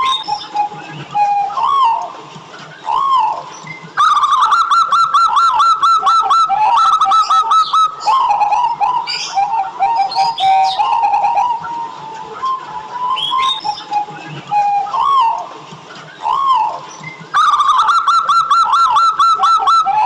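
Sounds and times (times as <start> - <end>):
dove song: 0.0 - 20.0.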